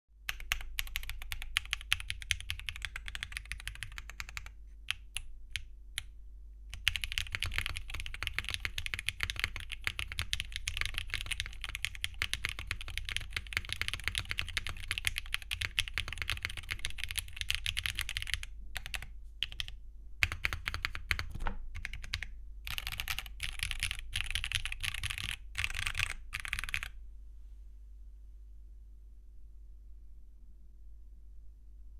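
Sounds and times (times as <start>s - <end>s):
mechanical keyboard typing: 0.3s - 6.1s, 6.7s - 26.9s.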